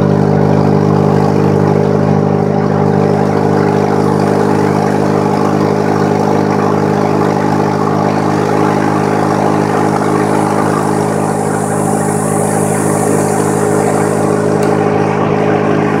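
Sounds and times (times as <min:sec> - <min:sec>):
engine exhaust note: 0:00.0 - 0:16.0.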